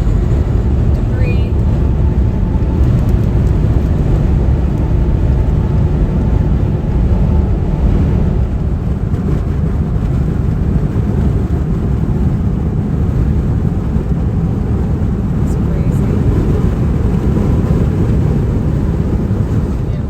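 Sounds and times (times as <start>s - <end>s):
van driving on highway: 0.0s - 20.0s.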